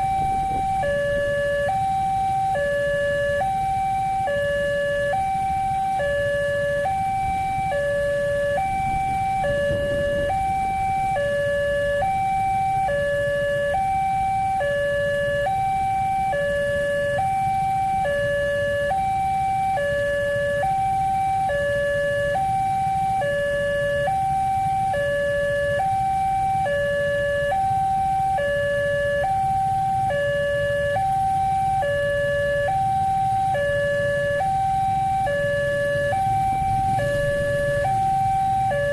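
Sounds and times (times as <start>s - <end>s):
two-tone crossing alarm: 0.0s - 38.9s.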